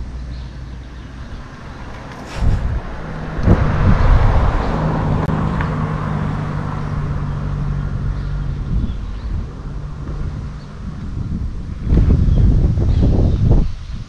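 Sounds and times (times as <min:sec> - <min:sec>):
passing motor vehicle: 0:00.0 - 0:14.0
wind rumbling on microphone: 0:00.0 - 0:14.0.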